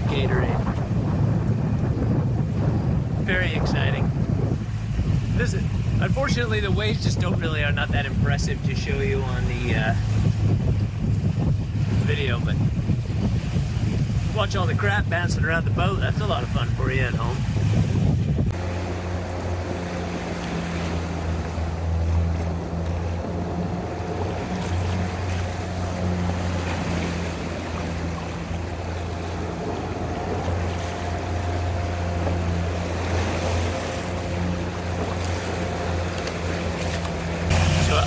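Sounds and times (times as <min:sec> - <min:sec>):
boat motor humming: 0:00.0 - 0:38.0
water washing past hull: 0:00.0 - 0:38.0
wind on microphone: 0:00.0 - 0:38.0.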